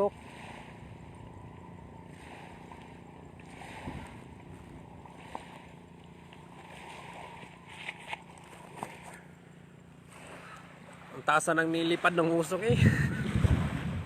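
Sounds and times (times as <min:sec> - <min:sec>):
low even hum: 0:00.0 - 0:14.0.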